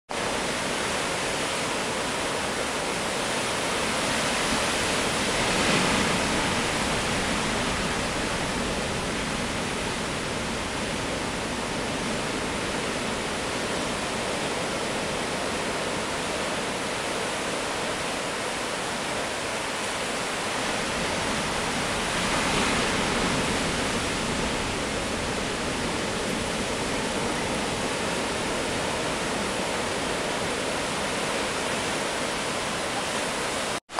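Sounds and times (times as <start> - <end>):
ocean surf breaking on rocks: 0.2 - 33.8.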